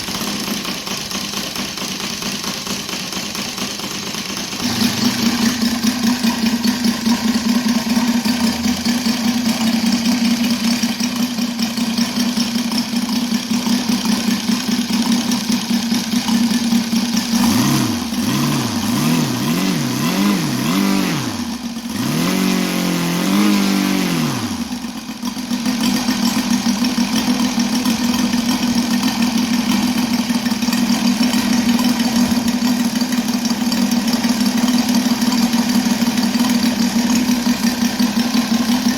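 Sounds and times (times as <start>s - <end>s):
radial engine idling and revving: 0.0s - 38.9s.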